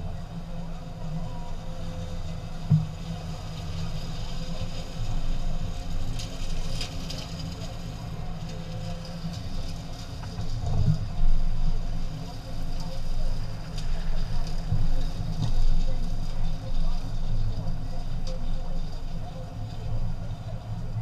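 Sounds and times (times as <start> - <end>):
pickup truck driving on dirt: 0.0 - 21.0.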